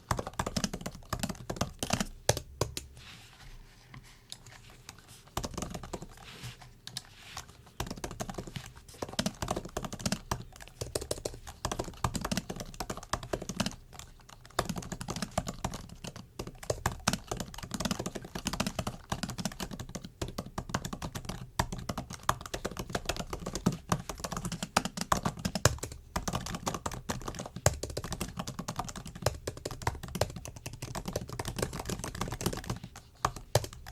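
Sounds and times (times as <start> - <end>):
typing on laptop keyboard: 0.0 - 2.9, 5.4 - 6.2, 6.9 - 33.9.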